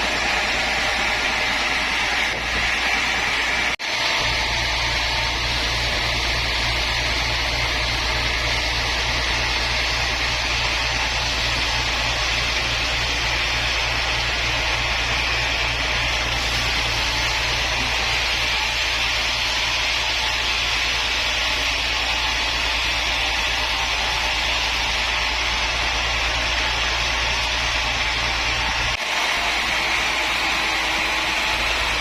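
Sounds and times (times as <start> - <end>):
woodworking machine running: 0.0 - 32.0.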